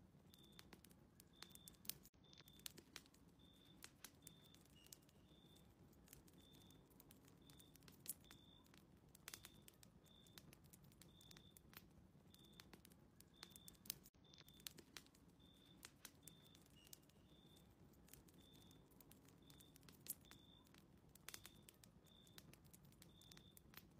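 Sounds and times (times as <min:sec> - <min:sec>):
faint wood fire crackling: 0:00.0 - 0:23.9.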